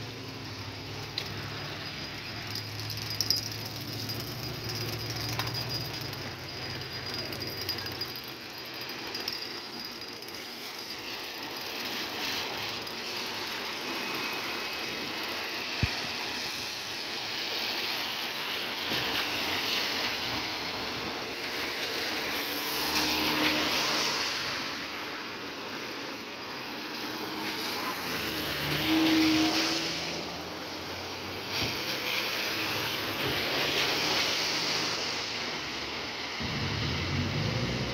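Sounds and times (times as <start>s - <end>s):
tyres hissing on wet road: 0.0s - 37.9s.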